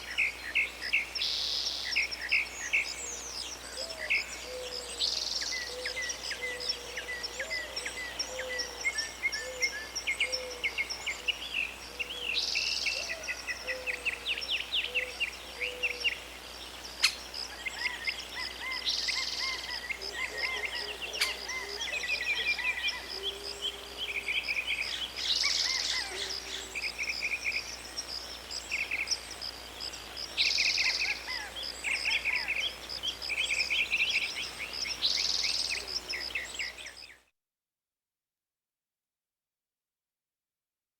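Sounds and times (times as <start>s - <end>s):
birds chirping and trilling: 0.0s - 37.2s
lower repeated bird calls: 0.0s - 37.2s.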